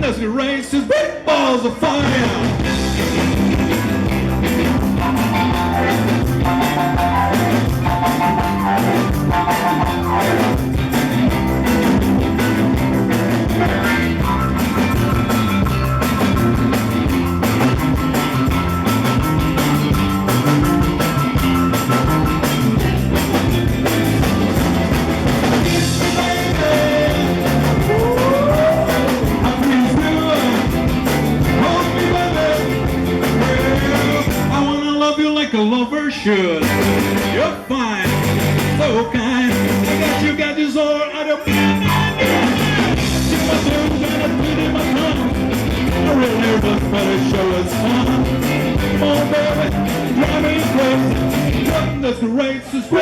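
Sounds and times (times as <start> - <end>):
rockabilly band playing: 1.8 - 34.8, 36.6 - 52.1.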